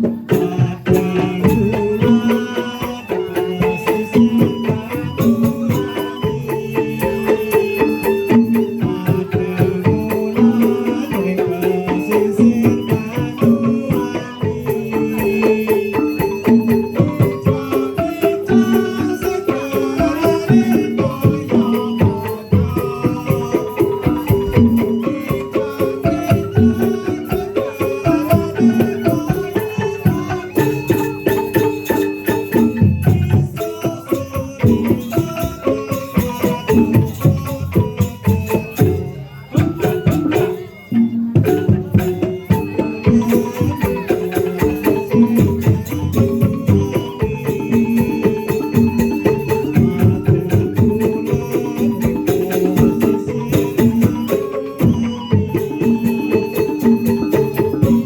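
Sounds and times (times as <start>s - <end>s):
drums: 0.0s - 58.0s
pitched percussion notes: 0.0s - 58.0s.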